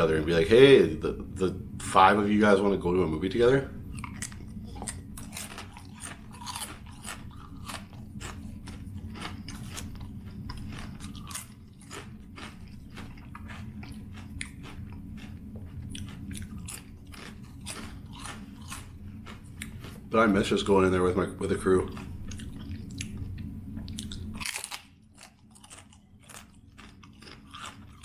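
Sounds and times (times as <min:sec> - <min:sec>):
faint low hum: 0:00.0 - 0:28.0
chewing potato chips: 0:03.9 - 0:20.9, 0:21.5 - 0:28.0.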